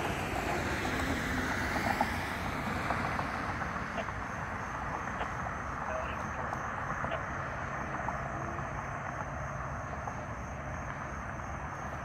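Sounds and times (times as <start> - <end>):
roadside hiss: 0.0 - 12.0.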